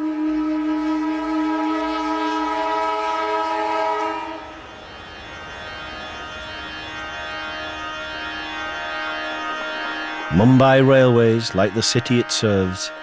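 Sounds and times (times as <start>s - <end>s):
train horn: 0.0s - 13.0s
train running: 0.0s - 13.0s.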